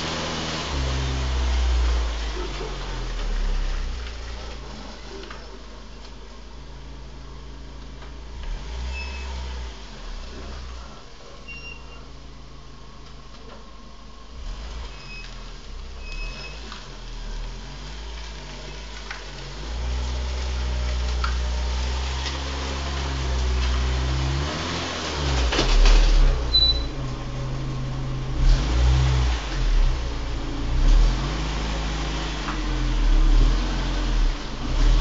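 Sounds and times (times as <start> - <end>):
car engine running at low speed: 0.0 - 35.0.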